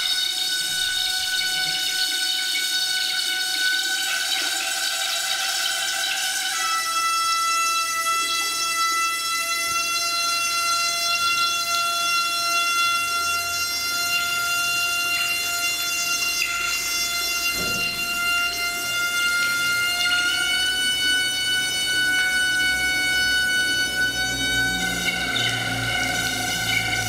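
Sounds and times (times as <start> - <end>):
water tap whistling: 0.0 - 27.0.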